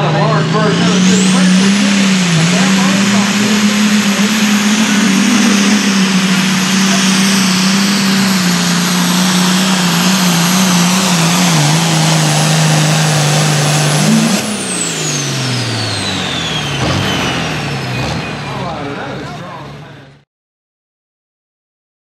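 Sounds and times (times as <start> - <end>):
turbo whine: 0.0 - 18.8
diesel engine under load: 0.0 - 20.2.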